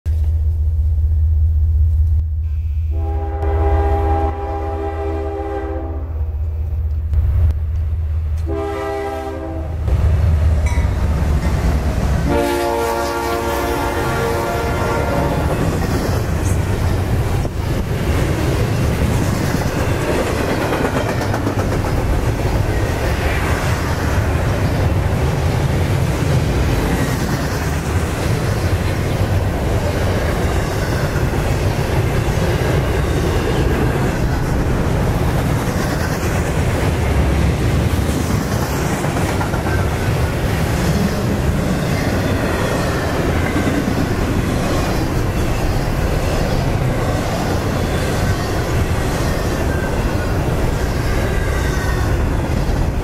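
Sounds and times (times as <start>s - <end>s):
freight train rumbling past: 0.1s - 53.0s.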